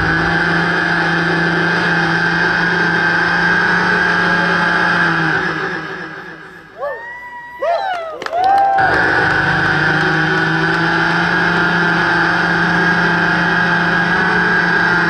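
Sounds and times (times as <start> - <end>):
synthesizer drone: 0.0 - 7.8, 8.8 - 15.0.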